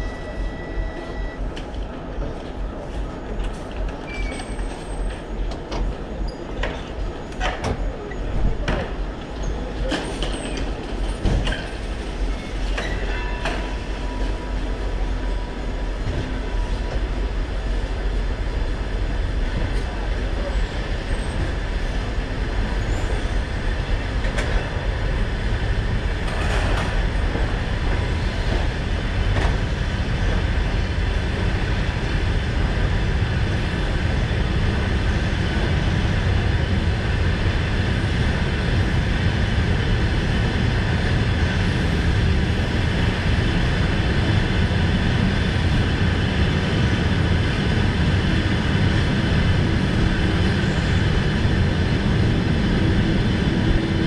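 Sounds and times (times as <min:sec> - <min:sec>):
train wheels rumbling on rails: 0:00.0 - 0:54.0
train clicks and knocks: 0:01.4 - 0:14.7, 0:19.4 - 0:54.0.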